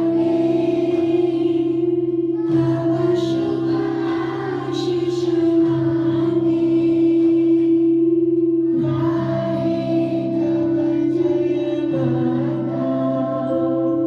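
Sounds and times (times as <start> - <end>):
group of voices singing: 0.0 - 14.0
musical accompaniment: 0.0 - 14.0.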